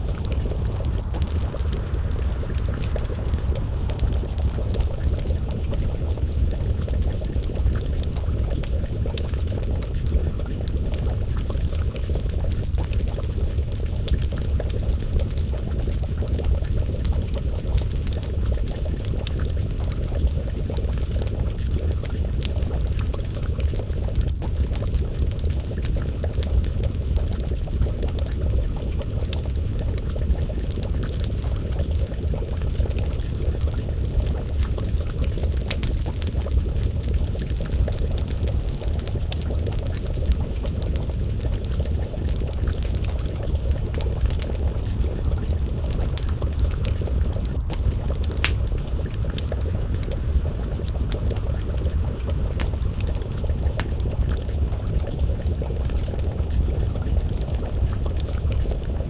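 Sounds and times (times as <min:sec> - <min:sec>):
stew bubbling at a simmer: 0:00.0 - 0:59.0
wood fire crackling: 0:00.0 - 0:59.0.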